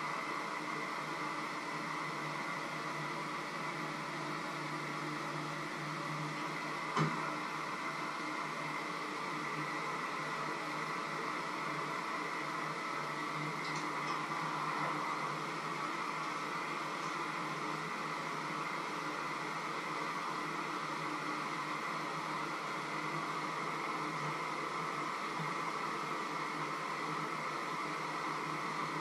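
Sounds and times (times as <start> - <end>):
fan or motor whirring: 0.0 - 29.0.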